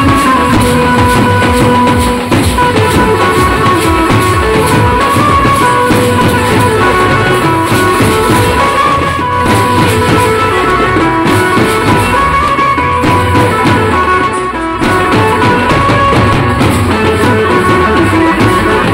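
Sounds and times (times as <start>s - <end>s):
bass drums and tasha drums beating: 0.0s - 18.9s
hand cymbals clashing: 0.0s - 18.9s
held melody line: 0.0s - 18.9s.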